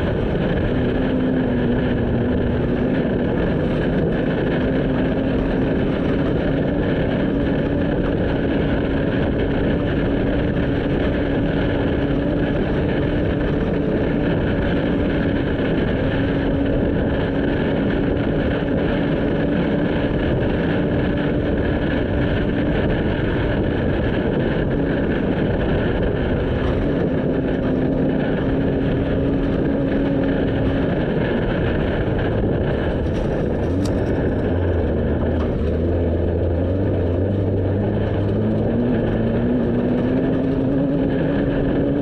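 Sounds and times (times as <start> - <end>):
road and wind noise: 0.0 - 42.0
vehicle engine drone: 0.0 - 42.0.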